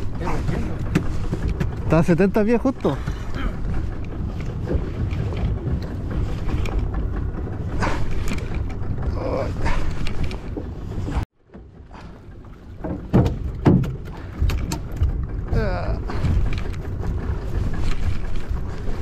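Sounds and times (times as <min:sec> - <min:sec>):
boat noise: 0:00.0 - 0:19.0
wind: 0:00.0 - 0:19.0.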